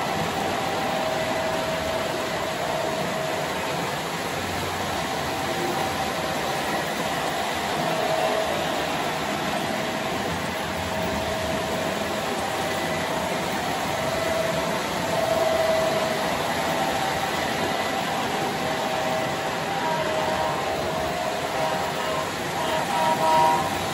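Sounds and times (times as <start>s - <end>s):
model trains rolling hum: 0.0s - 23.9s
wavering whine: 0.0s - 23.9s.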